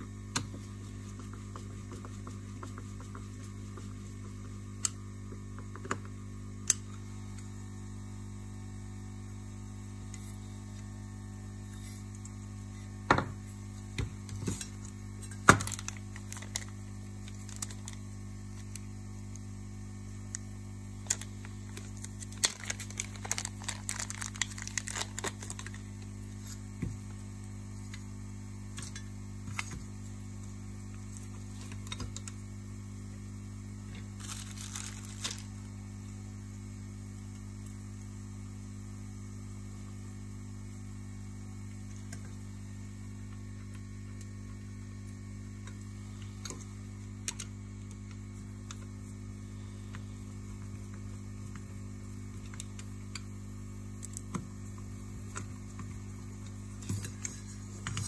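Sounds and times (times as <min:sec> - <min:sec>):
mains hum: 0:00.0 - 0:58.0.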